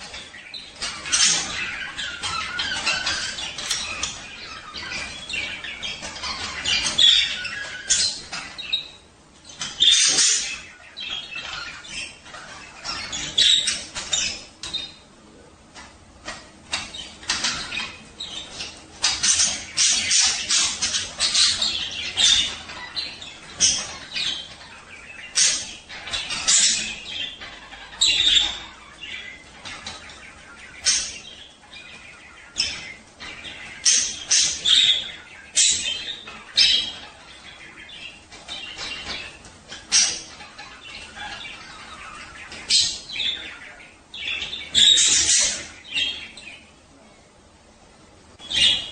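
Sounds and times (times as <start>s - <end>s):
budgerigars chirping and chattering: 0.0s - 48.9s.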